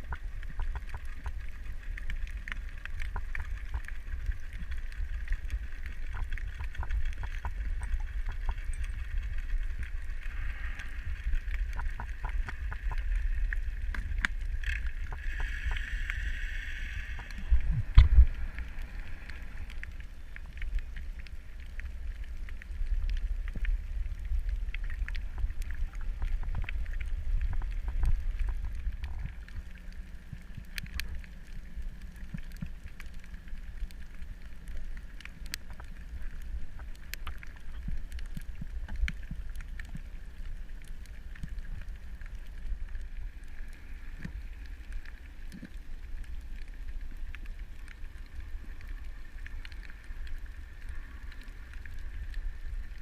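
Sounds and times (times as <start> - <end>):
sharp clicks and crackles: 0.0 - 53.0
underwater rumble of water: 0.0 - 53.0.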